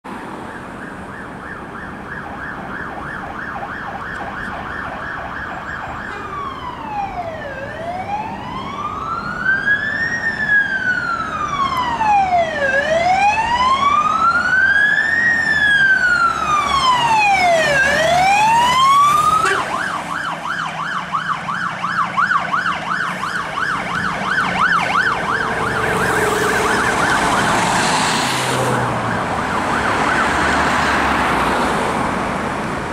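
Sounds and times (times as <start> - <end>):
engine and road noise: 0.0 - 32.9
fire engine siren: 0.2 - 32.0.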